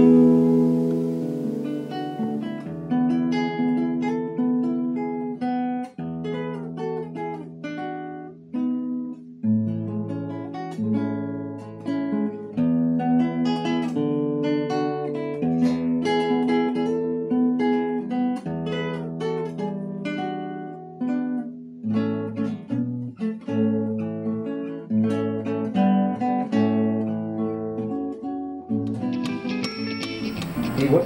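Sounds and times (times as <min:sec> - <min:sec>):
acoustic guitar music: 0:00.0 - 0:31.0.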